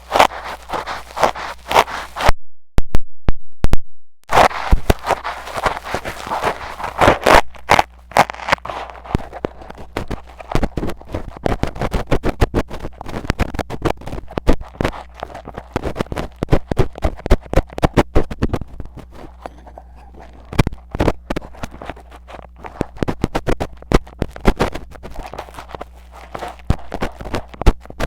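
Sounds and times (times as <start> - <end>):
metal pick scraping microphone: 0.0 - 2.3, 4.3 - 28.0.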